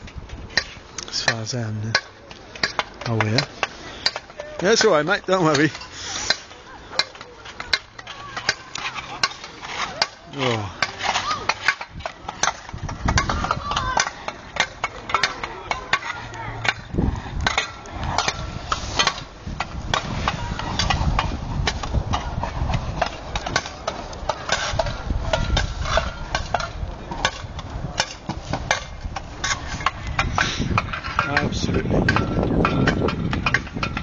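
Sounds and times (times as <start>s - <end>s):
spade chopping and scraping ice: 0.6s - 34.0s.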